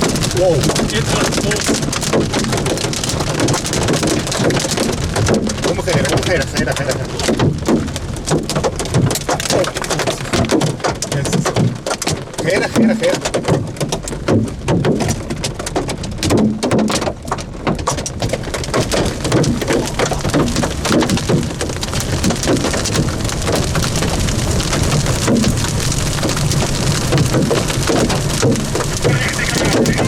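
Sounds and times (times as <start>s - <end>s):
hailstones hitting car roof: 0.0s - 30.0s.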